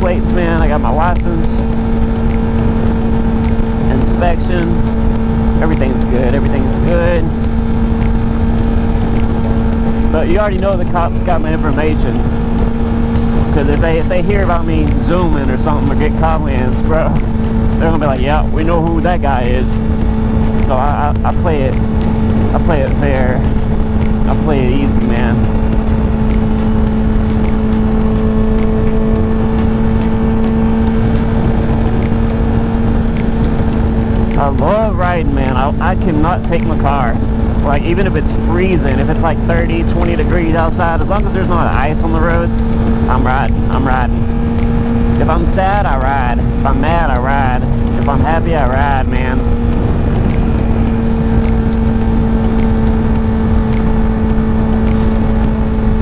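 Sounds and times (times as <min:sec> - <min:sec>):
motorcycle engine cruising: 0:00.0 - 0:56.0
wind rumble on microphone: 0:00.0 - 0:56.0.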